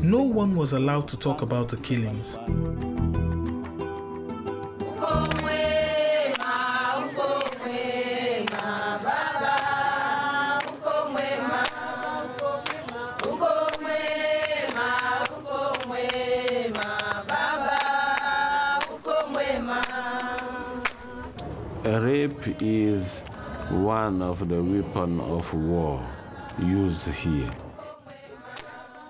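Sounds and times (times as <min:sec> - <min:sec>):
voices singing a chant: 0:04.8 - 0:29.0.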